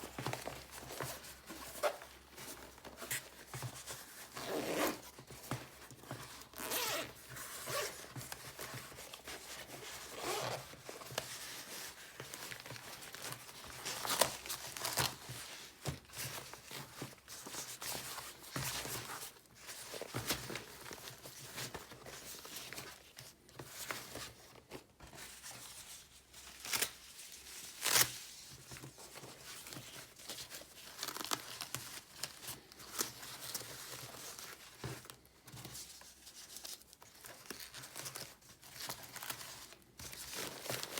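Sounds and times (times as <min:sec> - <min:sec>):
packaging rustling and tearing: 0:00.0 - 0:23.2, 0:26.3 - 0:40.9.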